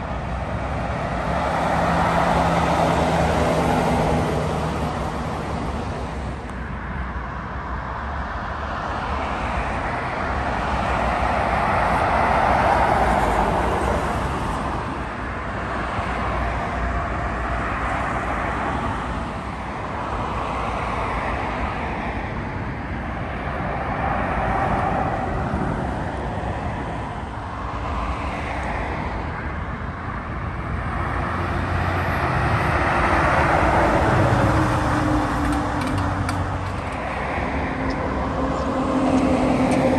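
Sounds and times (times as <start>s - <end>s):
lorries and cars passing: 0.0s - 39.9s.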